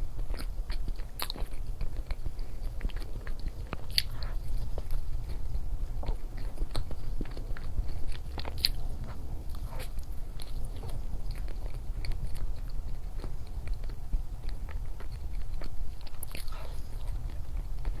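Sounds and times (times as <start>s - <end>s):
chewing crunchy chocolates: 0.0s - 18.0s
steady low hum: 0.0s - 18.0s.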